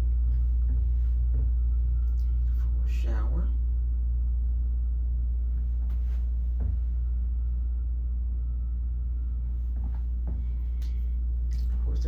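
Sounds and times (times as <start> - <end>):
ship machinery rumble: 0.0 - 12.0.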